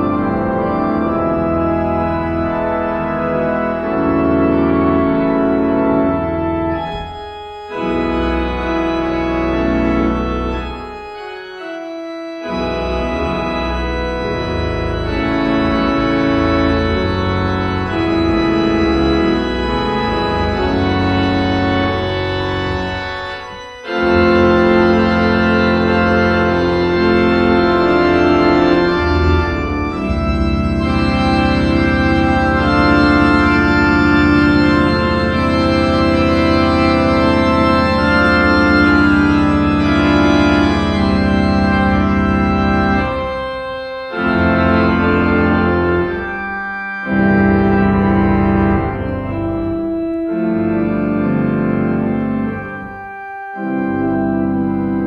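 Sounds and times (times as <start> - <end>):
deep organ pedal bass: 0.0 - 55.0
pipe organ chords: 0.0 - 55.0.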